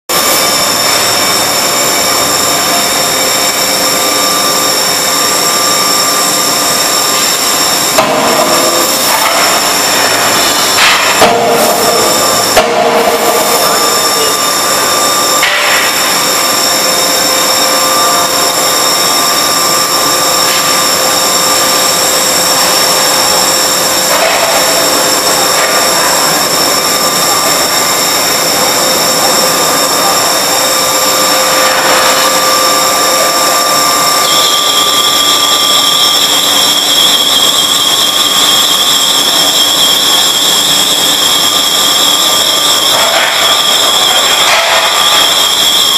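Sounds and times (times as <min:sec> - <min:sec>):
high steady machine whines: 0:00.1 - 0:45.9
machinery running loudly: 0:00.1 - 0:45.9.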